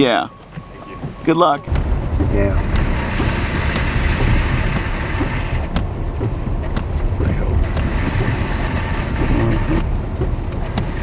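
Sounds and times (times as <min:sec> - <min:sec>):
low rumble: 0:00.2 - 0:11.0
wind buffeting microphone: 0:00.4 - 0:11.0.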